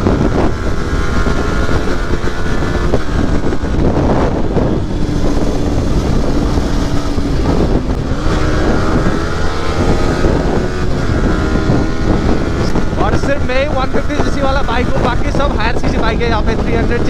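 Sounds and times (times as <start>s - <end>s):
motorcycle engine at high speed: 0.0s - 17.0s
wind rush on microphone: 0.0s - 17.0s.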